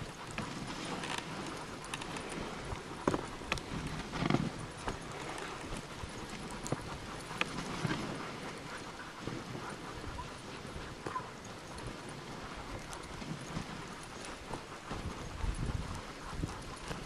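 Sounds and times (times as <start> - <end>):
dog paws trotting on snow: 0.0 - 17.0
sled runners hissing: 0.0 - 17.0.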